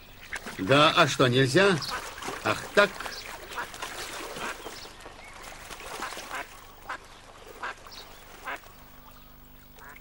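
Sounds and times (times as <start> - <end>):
ducks quacking: 0.2 - 4.9, 5.8 - 10.0
water splashing: 0.2 - 10.0.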